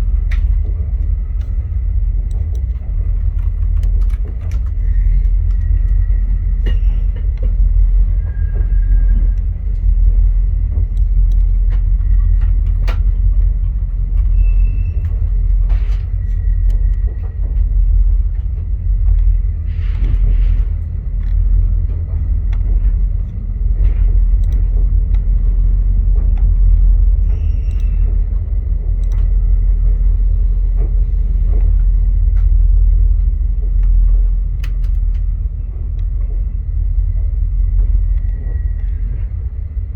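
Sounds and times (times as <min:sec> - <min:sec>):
train rumbling along track: 0:00.0 - 0:39.9.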